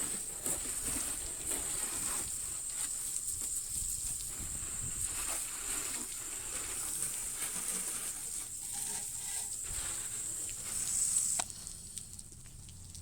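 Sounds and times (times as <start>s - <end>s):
garden hose spraying water: 0.0s - 13.0s.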